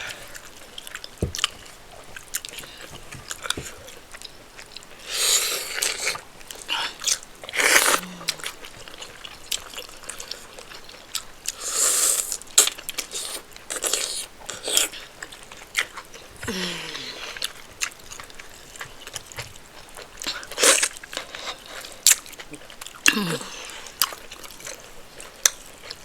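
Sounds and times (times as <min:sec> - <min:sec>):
person chewing and lip-smacking: 0:00.1 - 0:26.0.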